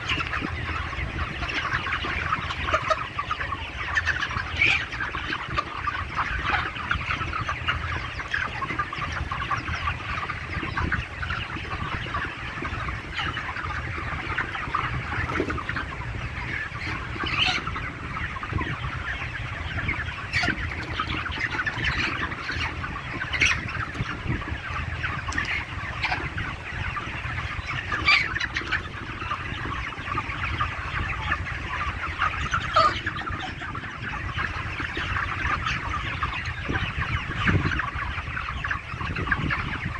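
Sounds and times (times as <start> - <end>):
chicks chirping and clucking: 0.0 - 39.9.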